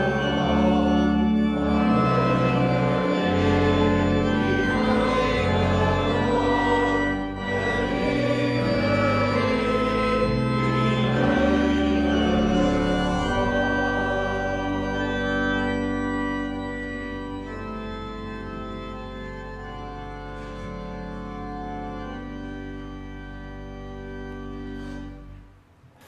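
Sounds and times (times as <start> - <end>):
church organ chords: 0.0 - 26.0.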